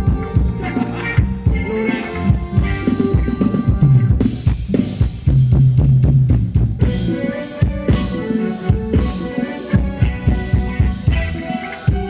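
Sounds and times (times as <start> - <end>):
drum kit beat: 0.0 - 12.0
sustained bass notes: 0.0 - 12.0.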